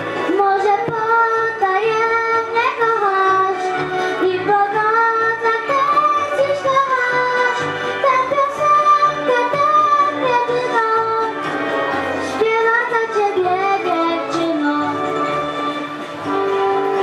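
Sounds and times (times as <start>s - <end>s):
musical accompaniment: 0.0s - 17.0s
boy singing into microphone: 0.3s - 11.4s, 12.3s - 15.6s.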